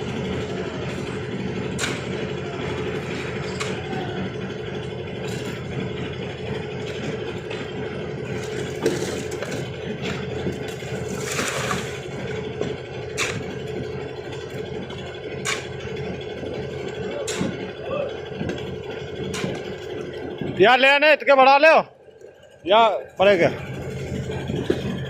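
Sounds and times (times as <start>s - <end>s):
machinery engine running: 0.0s - 25.0s.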